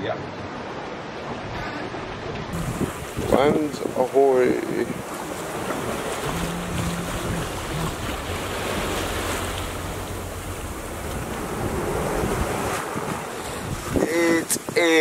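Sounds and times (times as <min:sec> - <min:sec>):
choppy sea waves rushing: 0:00.0 - 0:15.0
wind buffeting microphone: 0:02.2 - 0:15.0.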